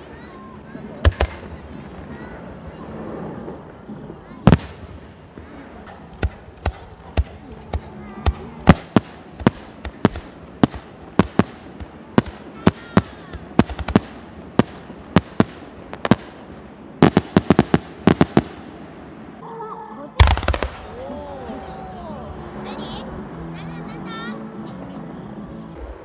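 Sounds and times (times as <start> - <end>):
fireworks bursting: 0.0 - 21.8.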